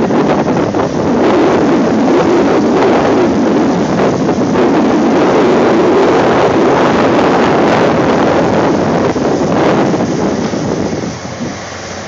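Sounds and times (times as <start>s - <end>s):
excavator diesel engines: 0.0s - 12.0s
wind buffeting microphone: 0.0s - 12.0s.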